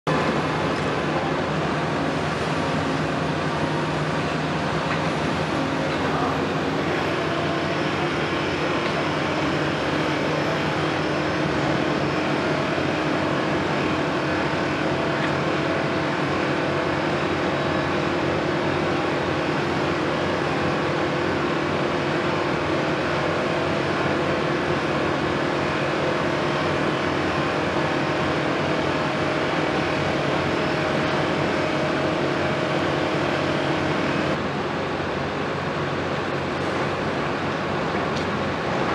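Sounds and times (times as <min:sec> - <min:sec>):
excavator diesel engines droning: 0:00.1 - 0:38.9.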